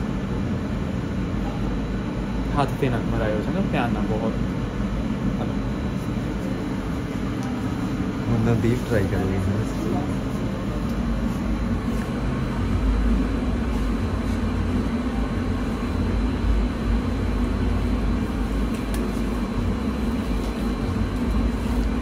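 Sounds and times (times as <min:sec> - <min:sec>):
faint high hum: 0:00.0 - 0:22.0.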